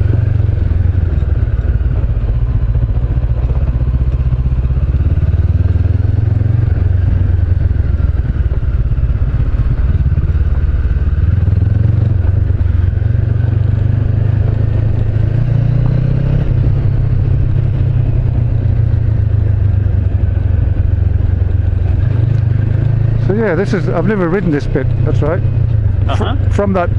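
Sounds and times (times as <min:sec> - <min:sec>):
motorcycle engine droning: 0:00.0 - 0:26.9.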